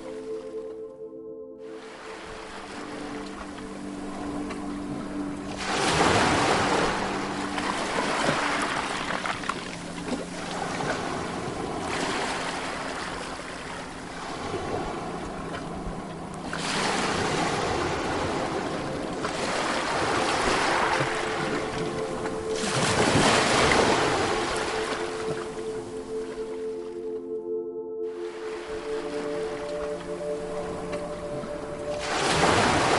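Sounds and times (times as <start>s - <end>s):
waves breaking on a beach: 1.8s - 26.5s, 28.2s - 32.9s.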